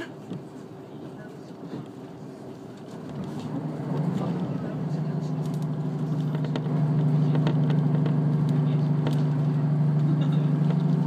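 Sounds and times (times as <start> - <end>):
diesel railcar drone: 0.0 - 11.0
train clicks and rattles: 1.5 - 11.0.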